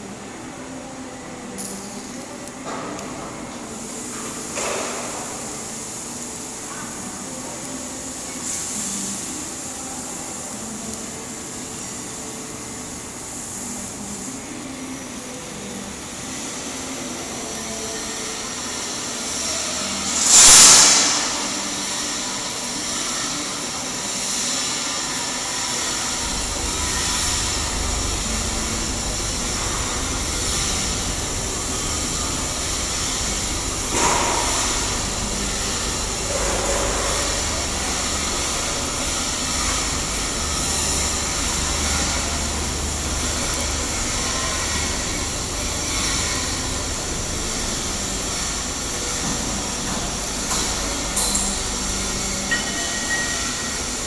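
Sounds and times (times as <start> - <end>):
low machine hum: 0.0 - 54.0
welding arc hissing: 1.4 - 54.0.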